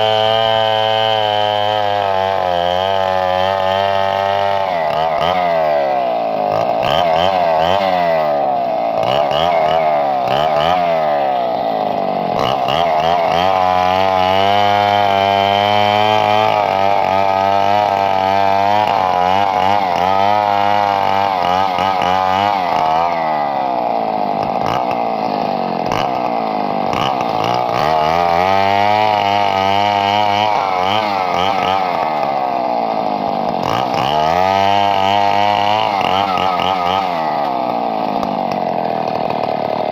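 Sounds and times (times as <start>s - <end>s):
chainsaw engine running: 0.0s - 39.9s.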